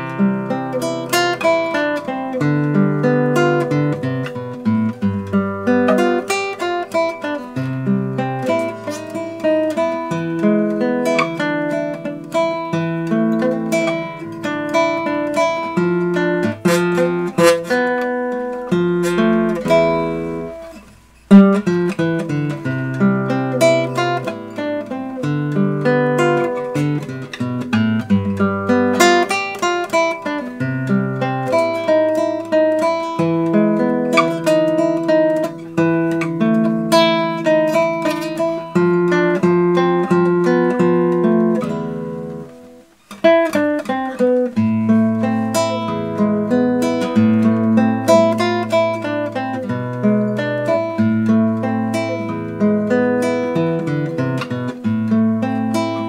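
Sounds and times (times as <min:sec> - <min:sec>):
classical guitar fingerstyle: 0:00.0 - 0:56.0.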